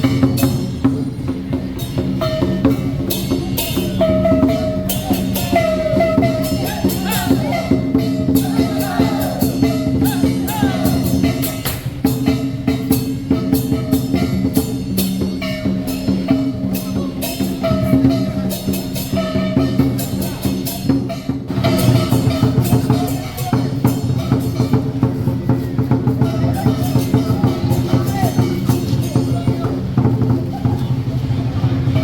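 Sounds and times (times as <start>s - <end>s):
music with drum beat and bass: 0.0s - 32.0s.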